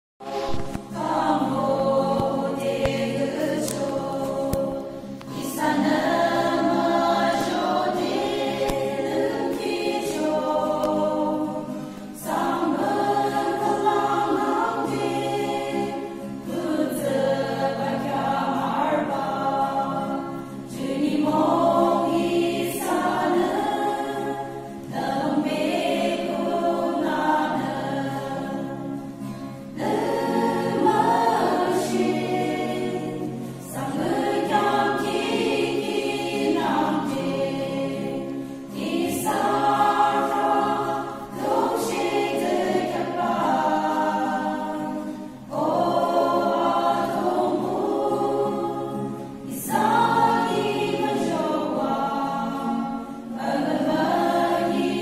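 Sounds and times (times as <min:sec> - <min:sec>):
women's choir singing a hymn: 0:00.2 - 0:55.0.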